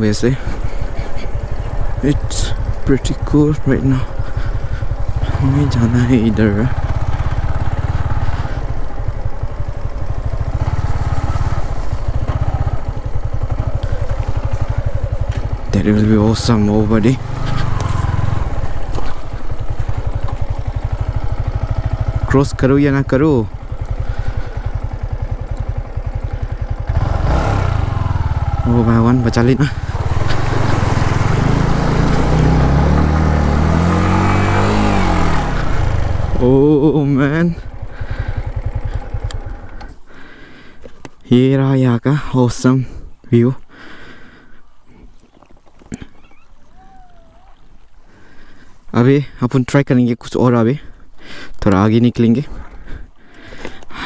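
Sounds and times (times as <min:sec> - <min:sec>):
motorcycle engine at low revs: 0:00.0 - 0:49.4, 0:50.8 - 0:54.0.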